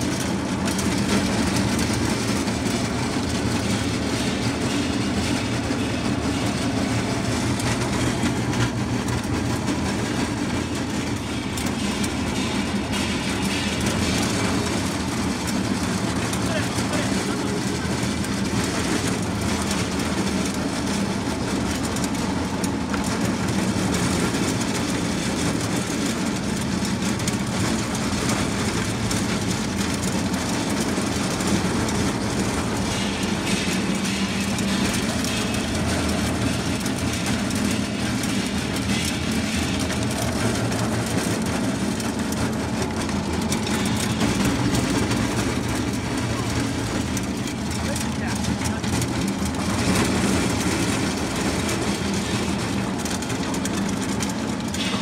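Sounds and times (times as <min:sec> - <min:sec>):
pellet mill mechanical drone: 0:00.0 - 0:55.0.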